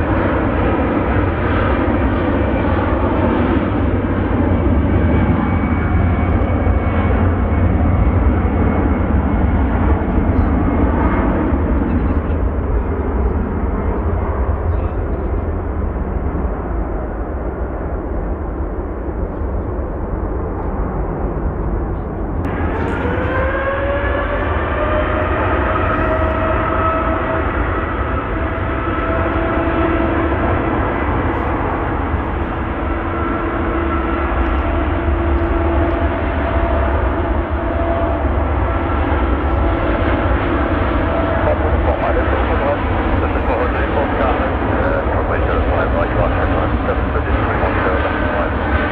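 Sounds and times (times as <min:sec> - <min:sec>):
jet engines rushing: 0:00.0 - 0:48.9
rising engine whine: 0:00.0 - 0:48.9.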